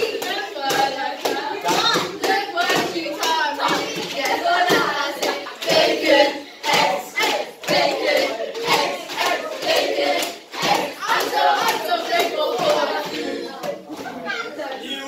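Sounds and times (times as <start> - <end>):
rhythmic hand clapping: 0.0 - 14.0
girls singing together: 0.0 - 15.0.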